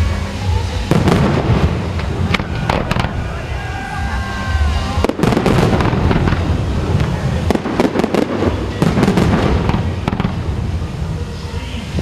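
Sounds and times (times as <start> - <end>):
deep rumble: 0.0 - 12.0
fireworks bangs and crackles: 0.0 - 12.0.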